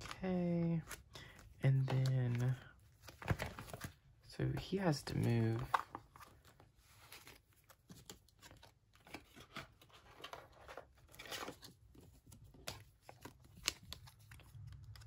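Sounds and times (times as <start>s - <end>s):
plastic sleeves crinkling and clicking: 0.0s - 15.0s.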